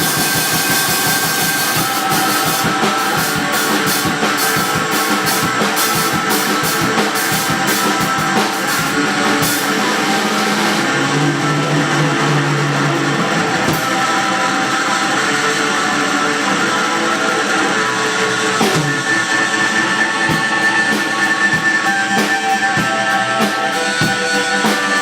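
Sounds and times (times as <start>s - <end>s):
drum kit beat: 0.0s - 25.0s
rock band playing: 0.0s - 25.0s.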